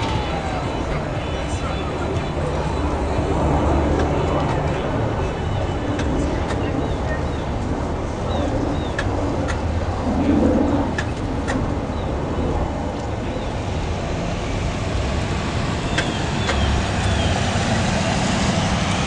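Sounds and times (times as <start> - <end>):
cars passing on road: 0.0 - 19.0.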